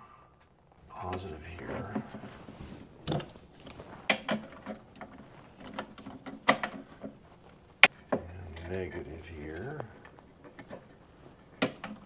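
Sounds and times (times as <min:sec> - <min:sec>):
hand tools and wire clattering: 0:01.0 - 0:12.0.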